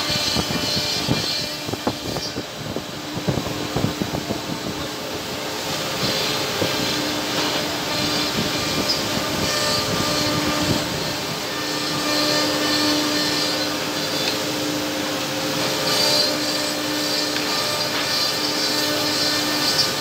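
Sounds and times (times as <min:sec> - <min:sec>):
machine mechanical hum: 0:00.0 - 0:20.0
router spindles whining: 0:00.0 - 0:20.0.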